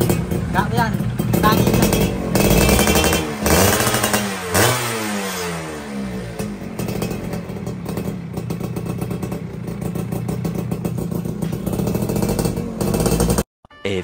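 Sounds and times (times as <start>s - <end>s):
motorcycle engine idling: 0.0s - 4.7s, 5.7s - 13.4s.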